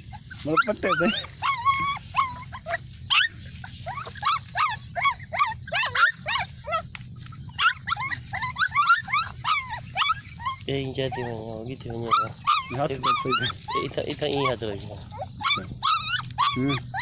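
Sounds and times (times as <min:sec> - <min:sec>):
dogs whimpering and whining: 0:00.0 - 0:17.0.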